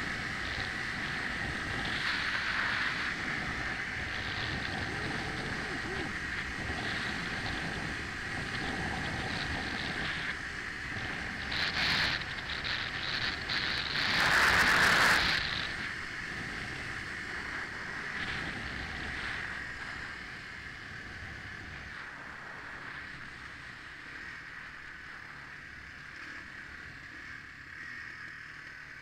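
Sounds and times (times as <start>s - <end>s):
wind rushing over microphone: 0.0s - 27.8s
motorcycle engine running: 0.0s - 29.0s.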